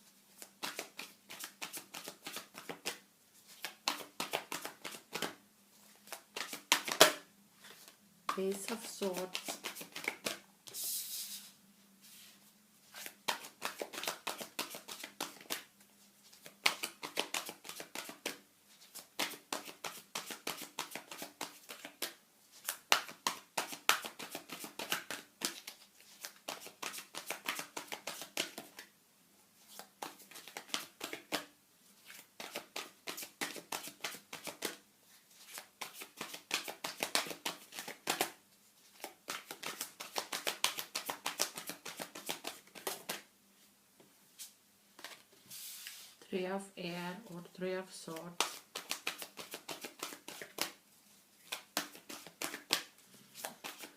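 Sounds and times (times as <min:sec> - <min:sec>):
cards being shuffled: 0:00.4 - 0:05.4, 0:06.0 - 0:11.4, 0:12.2 - 0:28.9, 0:29.7 - 0:34.8, 0:35.4 - 0:43.3, 0:44.4 - 0:46.2, 0:48.1 - 0:50.8, 0:51.4 - 0:53.9.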